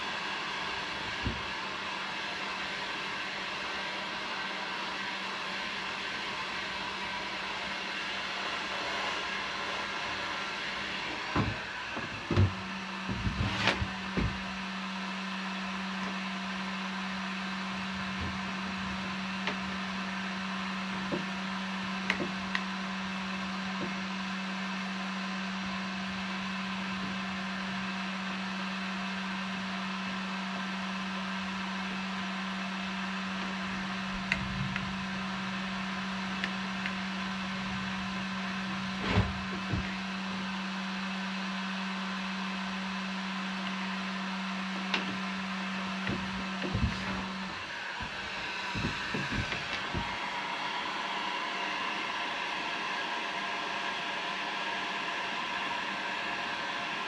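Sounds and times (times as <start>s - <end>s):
heat gun hissing and humming: 0.0s - 57.0s.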